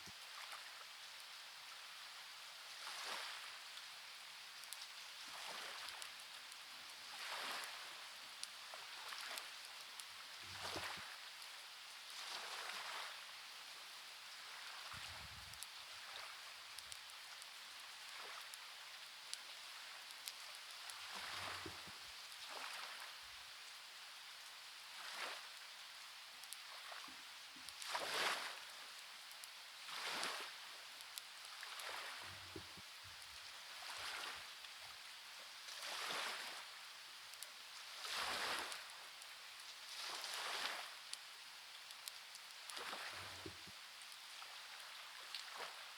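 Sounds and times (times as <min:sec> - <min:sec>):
rain: 0:00.0 - 0:45.9.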